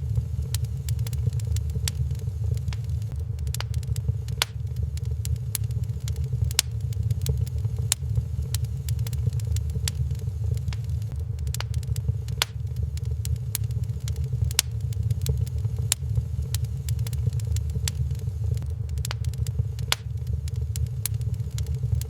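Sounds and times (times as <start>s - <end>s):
fire crackling with sharp pops: 0.0s - 22.0s
low fire rumble: 0.0s - 22.0s.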